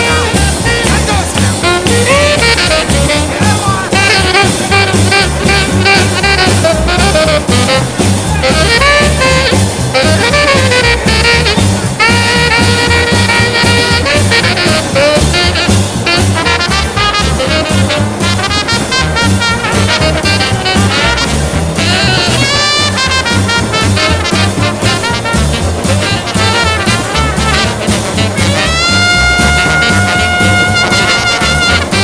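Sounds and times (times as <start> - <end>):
swing jazz band playing: 0.0 - 32.0.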